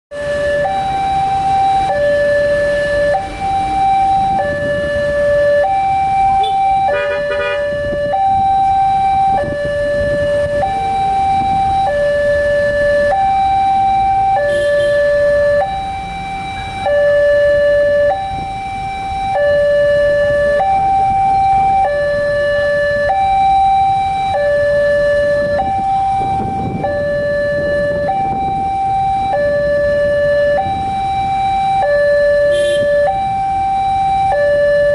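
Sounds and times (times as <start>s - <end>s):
level crossing two-tone alarm: 0.1s - 34.9s
low traffic rumble: 0.1s - 34.9s.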